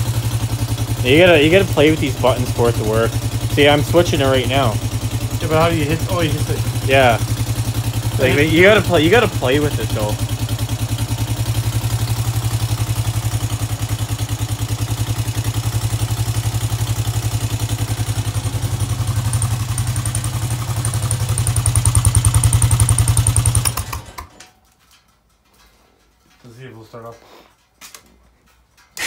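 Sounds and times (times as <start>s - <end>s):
atv engine running: 0.0s - 24.5s.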